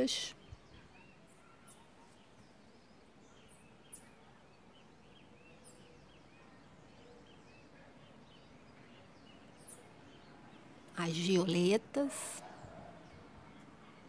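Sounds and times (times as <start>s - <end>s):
distant bird chirps: 0.0s - 14.0s.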